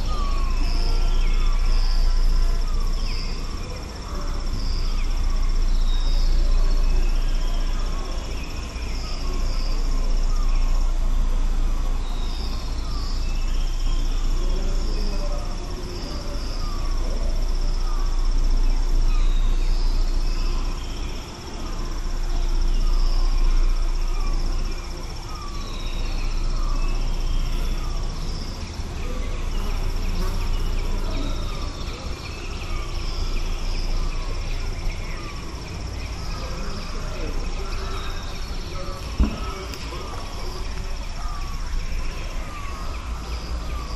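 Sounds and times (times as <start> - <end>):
high insect drone: 0.0 - 43.9
scattered bird calls: 0.0 - 43.9.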